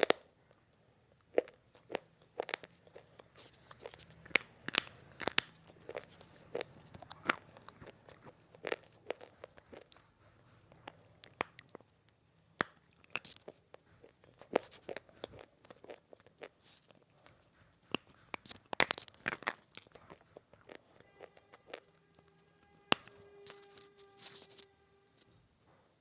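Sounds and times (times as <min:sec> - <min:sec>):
crunching and chewing clay: 0:00.0 - 0:25.4.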